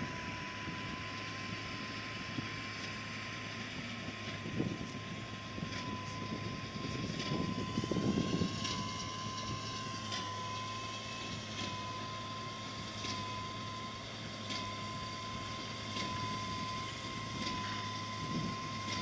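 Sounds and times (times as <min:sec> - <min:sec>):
tractor engine and baler: 0:00.0 - 0:19.0.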